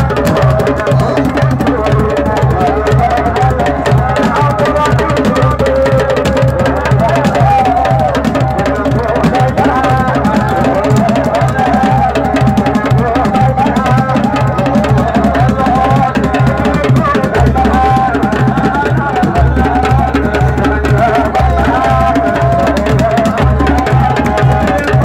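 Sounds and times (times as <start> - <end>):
amplified drum beat: 0.0 - 25.0
solo voice chanting: 0.0 - 25.0.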